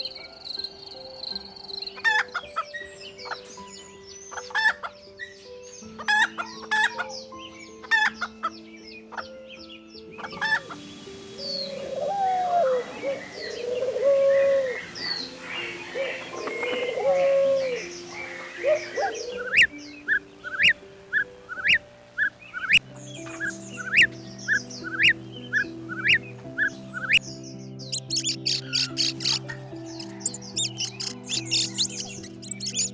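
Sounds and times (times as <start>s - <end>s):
wavering chicken calls: 0.0s - 3.5s, 4.3s - 10.8s, 11.4s - 32.9s
soft background music: 0.0s - 32.9s
chickens clucking: 1.6s - 5.4s, 6.0s - 27.2s, 27.9s - 32.9s.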